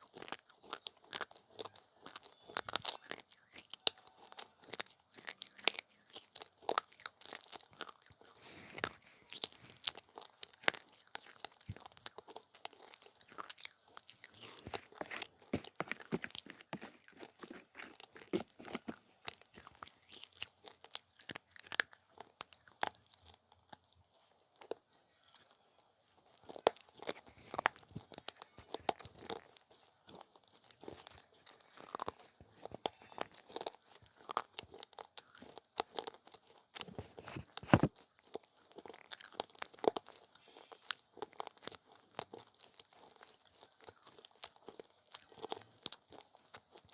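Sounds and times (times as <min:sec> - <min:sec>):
person chewing crunchy clay: 0:00.0 - 0:46.9.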